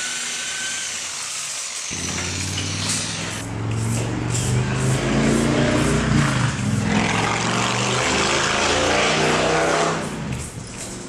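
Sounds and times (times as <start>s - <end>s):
engine revving: 1.9s - 11.0s.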